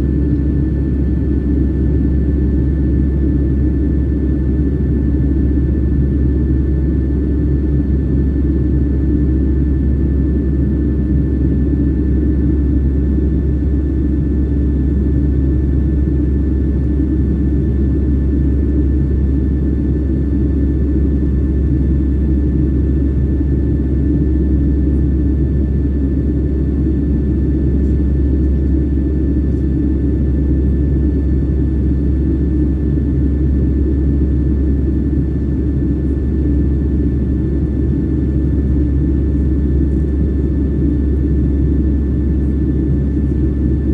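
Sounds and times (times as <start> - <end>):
faint steady whine: 0.0 - 43.9
jet engine cabin rumble: 0.0 - 43.9.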